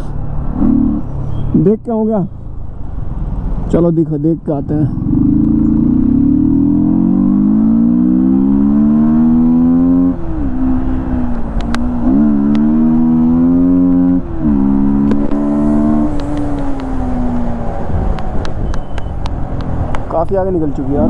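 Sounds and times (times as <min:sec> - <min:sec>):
motorcycle engine accelerating: 0:00.0 - 0:01.2, 0:04.6 - 0:21.0.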